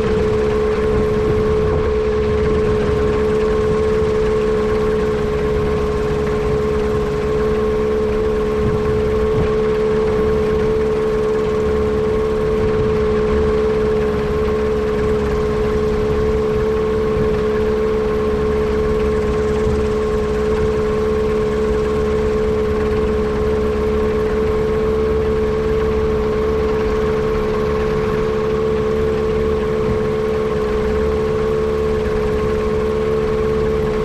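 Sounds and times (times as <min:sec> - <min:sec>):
engine running with misfire: 0:00.0 - 0:34.0.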